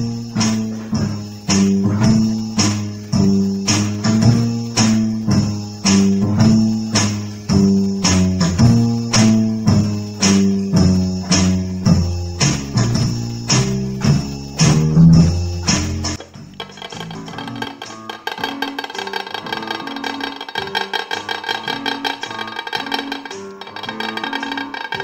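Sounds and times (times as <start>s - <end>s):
electronic keyboard music: 0.0s - 25.0s.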